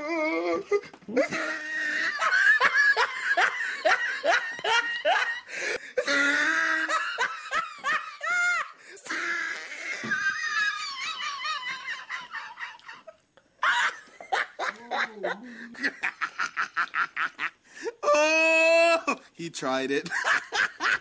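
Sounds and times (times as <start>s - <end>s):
person laughing: 0.6s - 18.4s.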